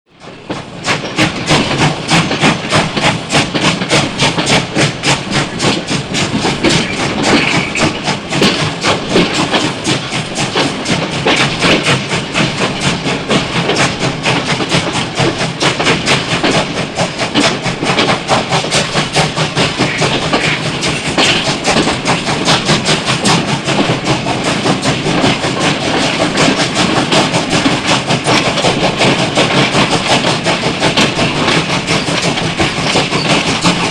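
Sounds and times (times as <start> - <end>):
steam locomotive chuffing: 0.1 - 33.9
steam hissing: 0.6 - 33.9.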